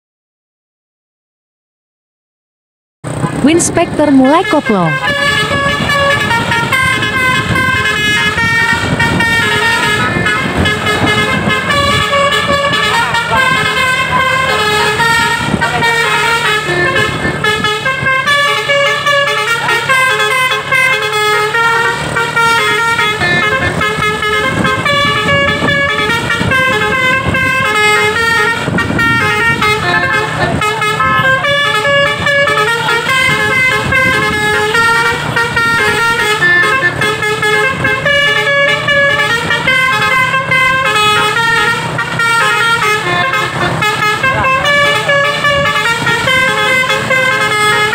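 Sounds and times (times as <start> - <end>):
low bus engine hum: 3.0 - 47.9
bus horn playing a melody: 3.1 - 47.9.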